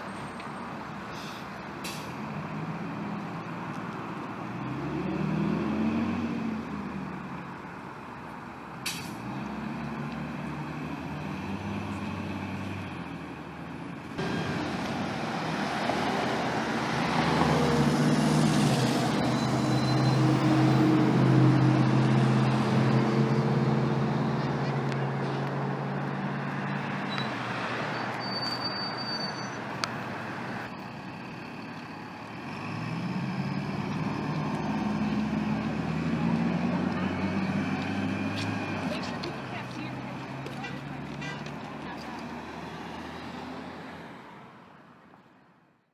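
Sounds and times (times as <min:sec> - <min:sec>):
bus engine accelerating: 0:00.0 - 0:44.6
traffic noise: 0:00.0 - 0:45.9.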